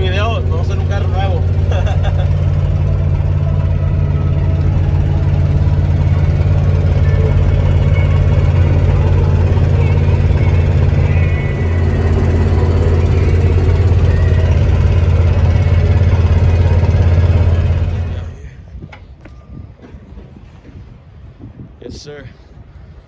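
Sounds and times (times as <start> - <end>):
vehicle engine and road drone: 0.0 - 23.0.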